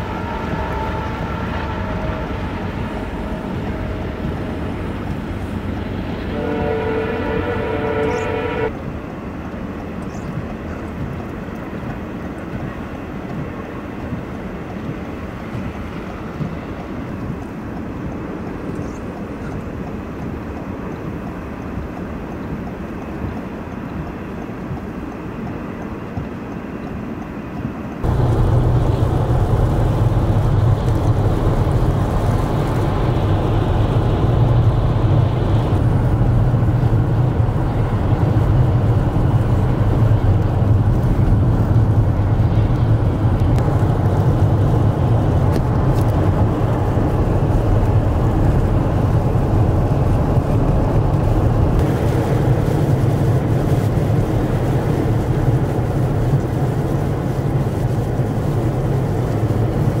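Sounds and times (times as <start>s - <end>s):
car driving road noise: 0.0s - 60.0s
constant low hum: 0.0s - 60.0s.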